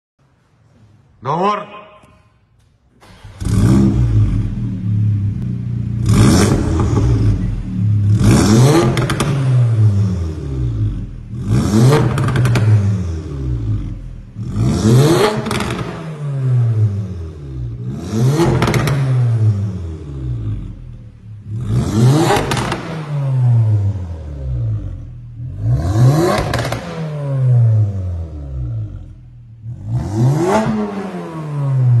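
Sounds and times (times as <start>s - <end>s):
car engine revving: 3.0s - 32.0s.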